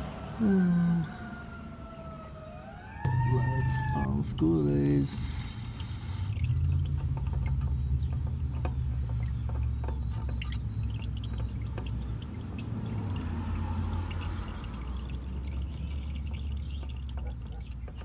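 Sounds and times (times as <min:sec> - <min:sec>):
oil dripping into a container: 0:03.1 - 0:18.0.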